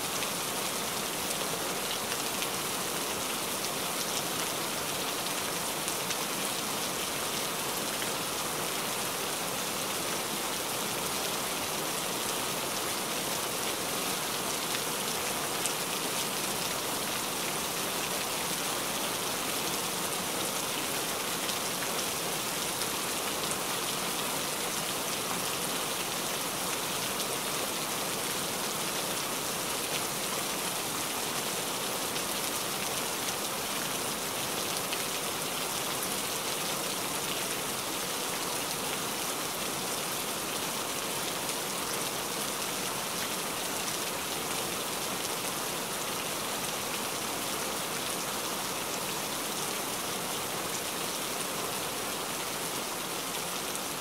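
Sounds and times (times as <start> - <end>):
heavy rain on wet surface: 0.0 - 54.0.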